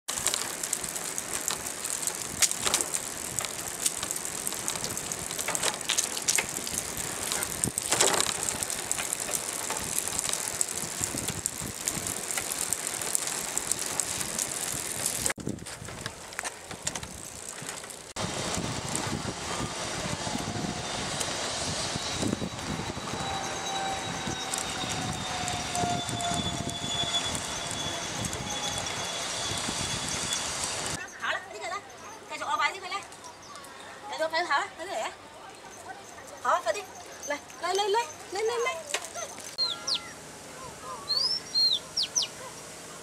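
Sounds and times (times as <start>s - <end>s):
bike rattling on paved path: 0.1s - 21.4s, 22.1s - 39.8s.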